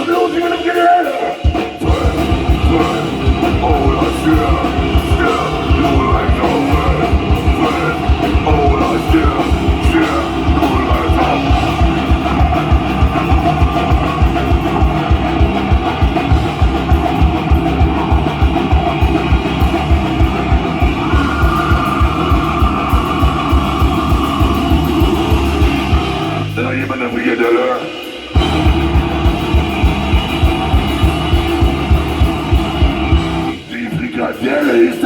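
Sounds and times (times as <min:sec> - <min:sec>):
fast pounding drums: 0:00.0 - 0:35.0
heavily distorted guitars: 0:00.0 - 0:35.0.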